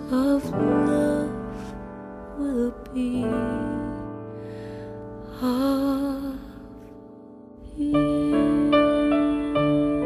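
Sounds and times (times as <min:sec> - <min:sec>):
slow tender piano music: 0:00.0 - 0:10.0.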